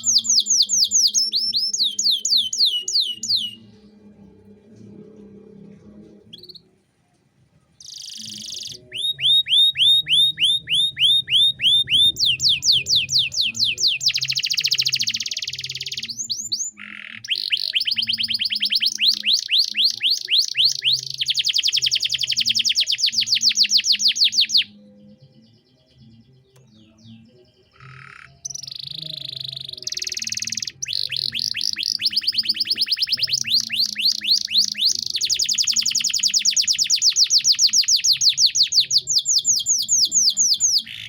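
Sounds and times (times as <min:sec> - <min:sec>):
canary singing: 0:00.0 - 0:04.1, 0:06.3 - 0:06.7, 0:07.8 - 0:41.0.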